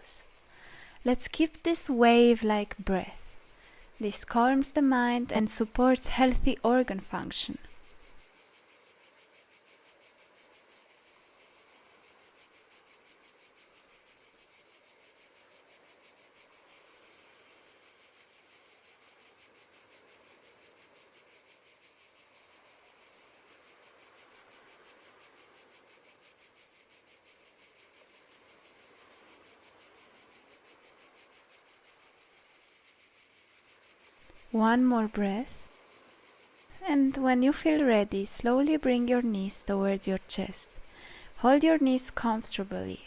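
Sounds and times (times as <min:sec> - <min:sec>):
crickets chirping: 0:00.0 - 0:43.0.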